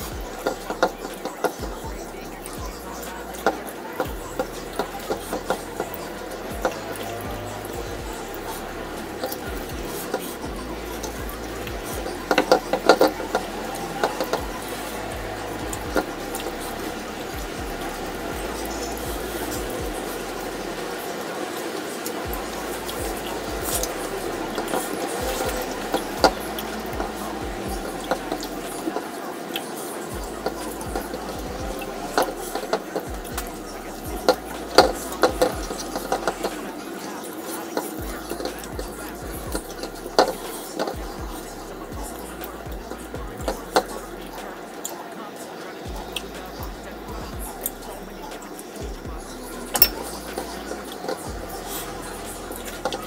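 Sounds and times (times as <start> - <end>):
steady low hum: 0.0 - 21.4, 22.1 - 29.1, 30.1 - 37.2, 38.0 - 44.6, 45.9 - 53.0
chewing and mouth sounds: 0.0 - 45.0, 45.9 - 53.0.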